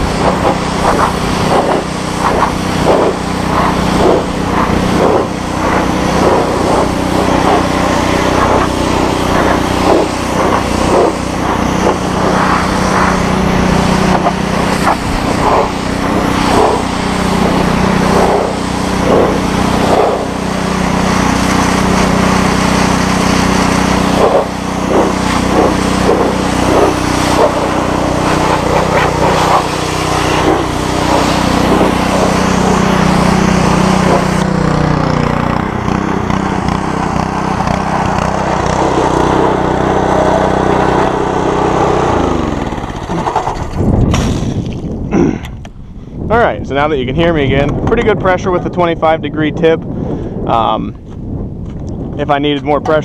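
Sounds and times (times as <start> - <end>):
water jet spraying metal: 0.0 - 44.6
pressure washer engine running: 0.0 - 45.4.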